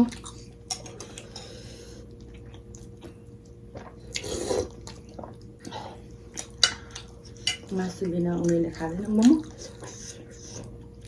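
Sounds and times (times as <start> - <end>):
wet chewing: 0.0 - 10.9.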